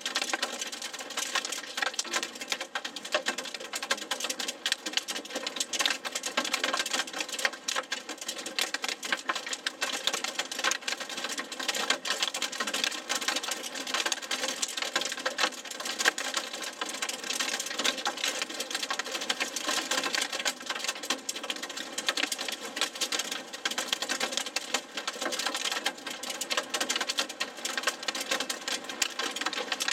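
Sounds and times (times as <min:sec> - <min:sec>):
hail and rain on car roof: 0:00.0 - 0:29.9.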